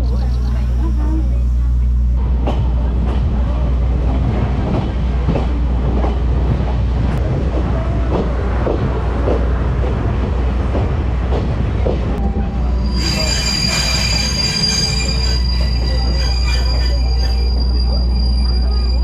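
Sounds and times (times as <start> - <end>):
train rumbling: 0.0 - 19.0
wheels clacking on rails: 2.2 - 19.0.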